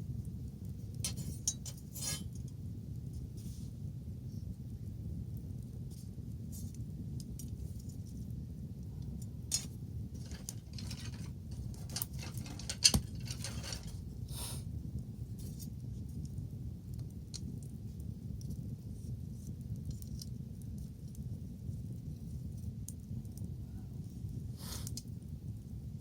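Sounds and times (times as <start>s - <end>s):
bonfire crackling: 0.0s - 26.0s.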